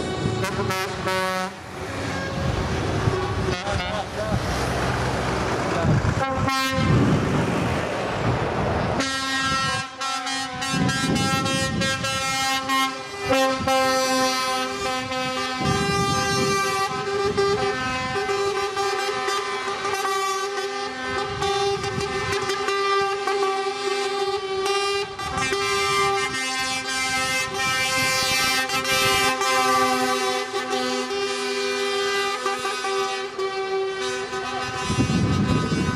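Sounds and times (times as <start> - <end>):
truck air horns blasting: 0.0 - 4.3, 6.1 - 7.3, 8.9 - 35.9
truck and road noise: 0.0 - 35.9.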